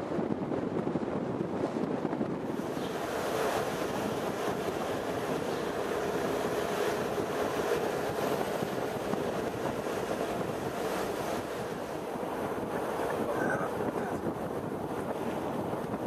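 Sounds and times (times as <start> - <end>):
rolling road noise: 0.0 - 16.0
wind rush on microphone: 0.0 - 16.0.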